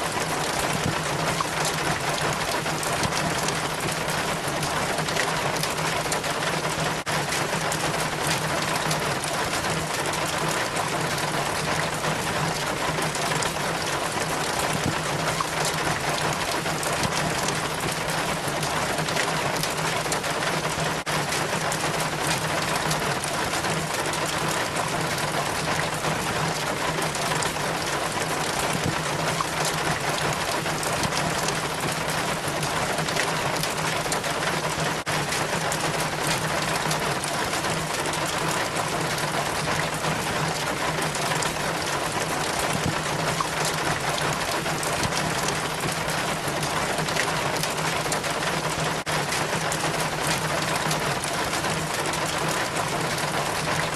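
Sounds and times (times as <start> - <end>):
rainwater trickling down rain chain: 0.0 - 53.9.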